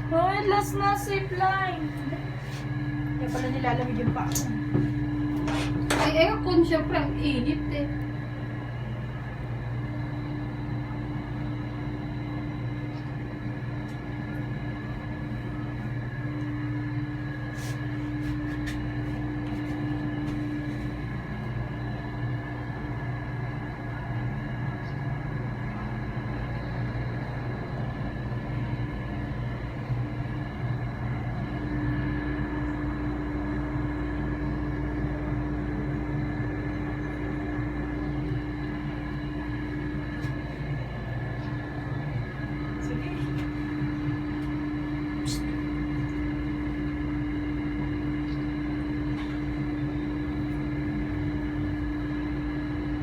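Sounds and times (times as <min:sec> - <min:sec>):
air conditioning drone: 0:00.0 - 0:53.0.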